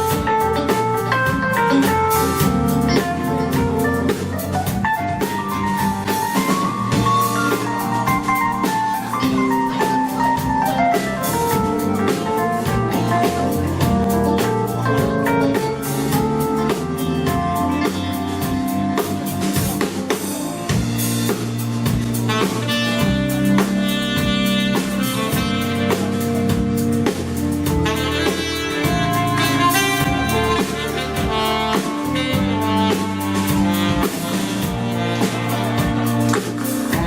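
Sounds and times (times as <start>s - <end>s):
drum kit beat: 0.0s - 37.0s
live band playing: 0.0s - 37.0s
saxophone: 0.0s - 37.0s.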